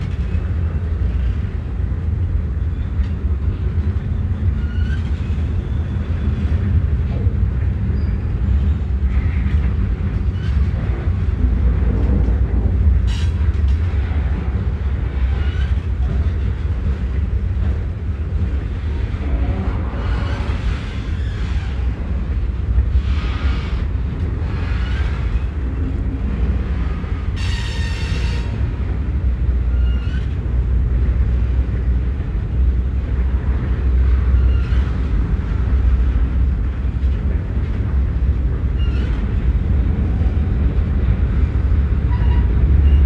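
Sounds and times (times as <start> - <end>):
freight train rumbling past: 0.0 - 43.0.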